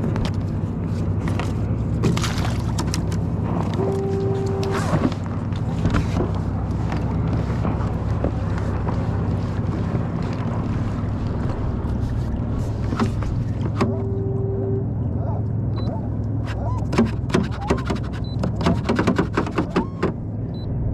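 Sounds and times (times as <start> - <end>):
boat engine humming: 0.0 - 20.9.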